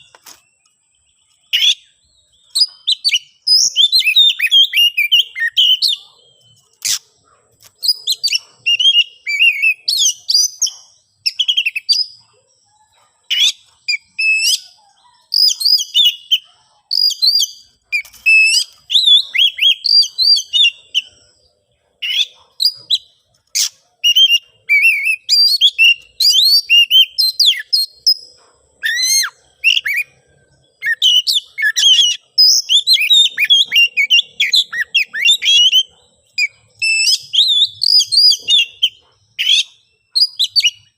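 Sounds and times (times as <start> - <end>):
bird singing whistles and trills: 0.0 - 40.9.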